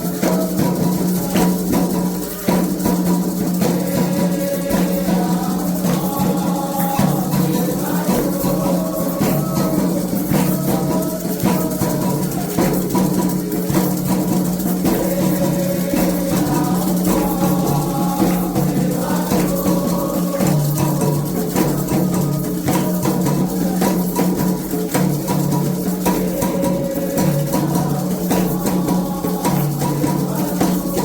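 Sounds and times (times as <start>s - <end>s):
hand drums: 0.0s - 31.0s
rattles and small percussion: 0.0s - 31.0s
voices singing: 0.0s - 31.0s.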